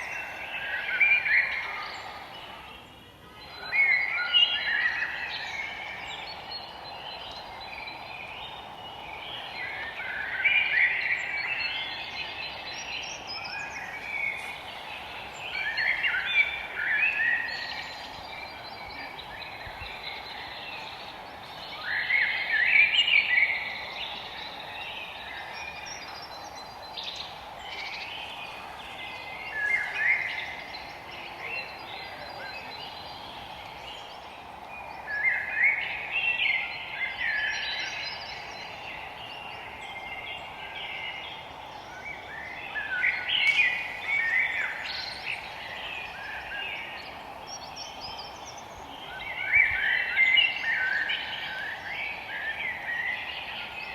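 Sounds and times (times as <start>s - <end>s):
songbirds chirping: 0.0s - 53.9s
steady background hiss: 0.0s - 53.9s.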